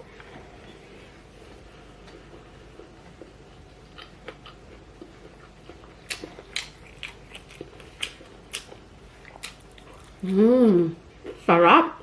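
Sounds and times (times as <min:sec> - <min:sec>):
chewing food: 0:00.0 - 0:10.4.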